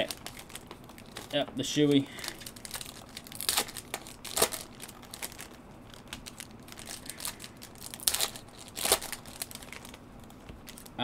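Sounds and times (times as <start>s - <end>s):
foil wrapper tearing and crinkling: 0.0s - 10.0s, 10.6s - 11.0s.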